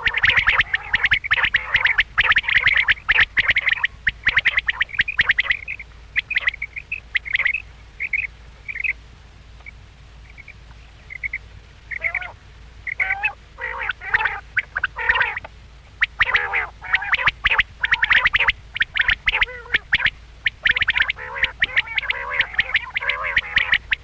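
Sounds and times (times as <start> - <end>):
quail calling: 0.0 - 9.0, 9.6 - 24.0.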